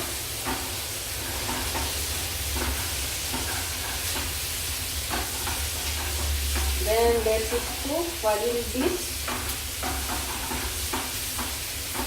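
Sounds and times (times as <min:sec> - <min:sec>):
food sizzling in a pan: 0:00.0 - 0:12.0
utensil knocking on pan: 0:01.4 - 0:04.4, 0:05.1 - 0:12.0.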